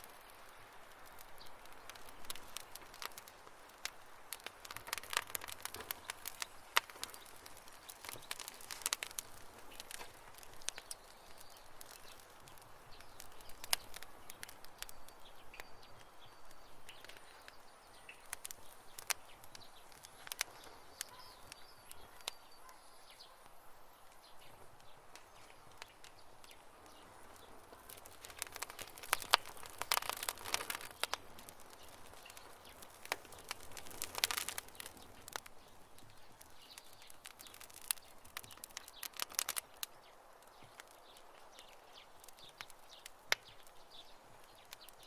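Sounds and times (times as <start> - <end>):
campfire crackling: 0.0 - 45.0
soft hiss: 0.0 - 45.0.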